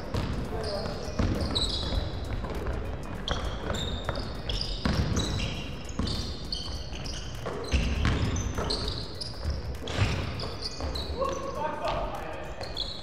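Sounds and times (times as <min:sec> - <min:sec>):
basketball dribbling on hardwood: 0:00.0 - 0:11.1
sneaker squeaks: 0:00.0 - 0:13.0.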